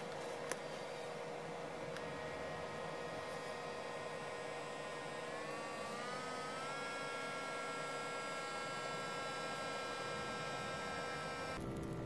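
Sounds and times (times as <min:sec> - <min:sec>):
inflation pump whirring: 0:00.0 - 0:12.0.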